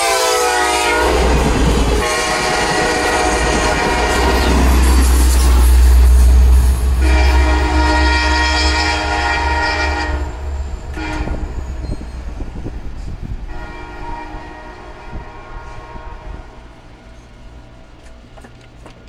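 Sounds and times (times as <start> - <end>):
train horn blasts: 0.0 - 12.1, 13.4 - 16.8
train rumbling on rails: 0.0 - 19.0.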